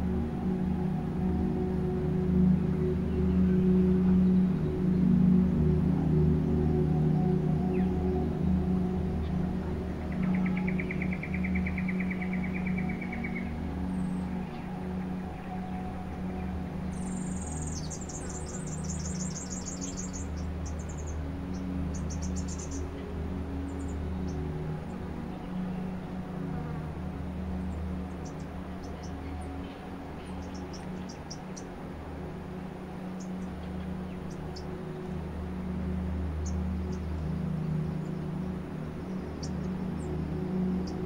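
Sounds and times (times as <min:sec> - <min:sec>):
ambient synthesizer drone: 0:00.0 - 0:41.0.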